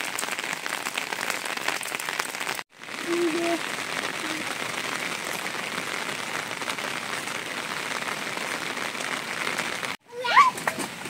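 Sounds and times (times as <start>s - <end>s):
rain drops pattering: 0.0s - 11.0s.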